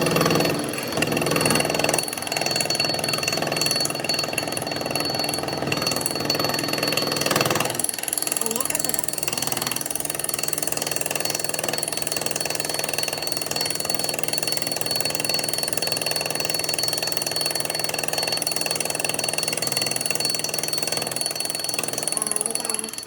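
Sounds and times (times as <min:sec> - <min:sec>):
machinery rattling and whining: 0:00.0 - 0:23.0.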